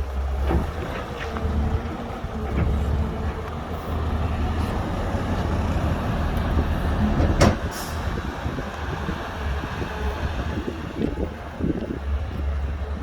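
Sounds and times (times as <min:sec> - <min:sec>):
diesel machinery rumbling: 0:00.0 - 0:13.0.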